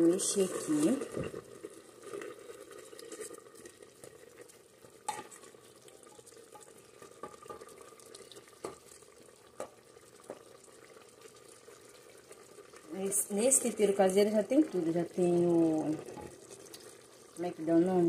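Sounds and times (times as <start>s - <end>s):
faint sizzle: 0.0s - 18.0s.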